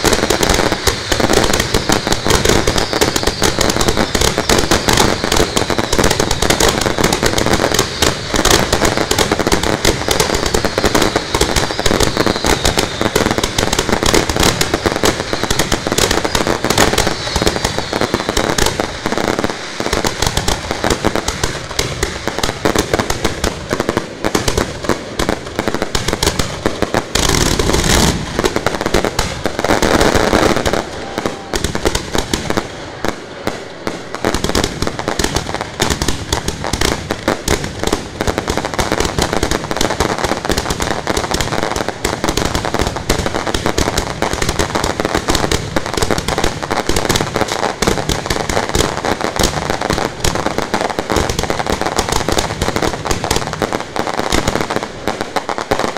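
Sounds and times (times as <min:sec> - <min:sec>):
fireworks launch bangs and crackling: 0:00.0 - 0:55.9.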